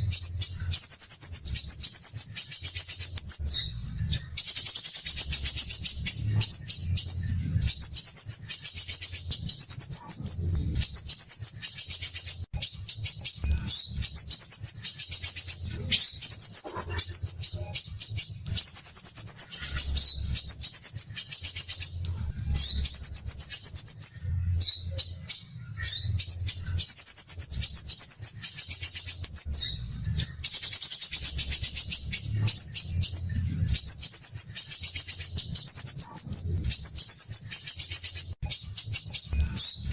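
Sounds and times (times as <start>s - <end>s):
bird singing harsh high trills: 0.0s - 39.9s.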